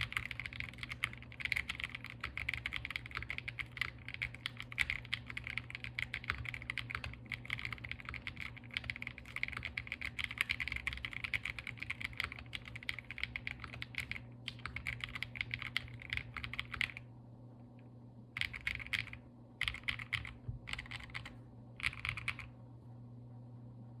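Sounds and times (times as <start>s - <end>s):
typing on mechanical keyboard: 0.0s - 17.0s, 18.4s - 22.5s.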